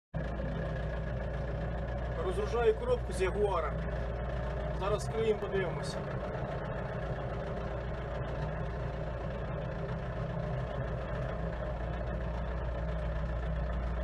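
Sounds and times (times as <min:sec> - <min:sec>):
vehicle engine humming: 0:00.2 - 0:14.0.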